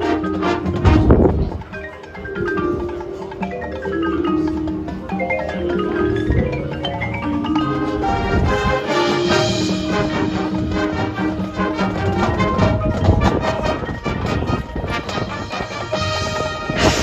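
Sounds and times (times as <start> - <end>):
mallet percussion runs: 0.0 - 17.0
marching band playing: 0.0 - 17.0.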